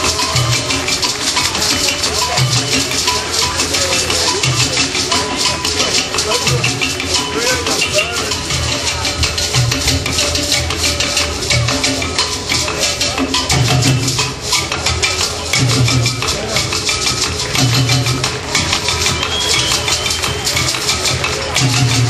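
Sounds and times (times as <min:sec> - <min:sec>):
drum and percussion music: 0:00.0 - 0:22.0
fast percussion rattle: 0:00.0 - 0:22.0.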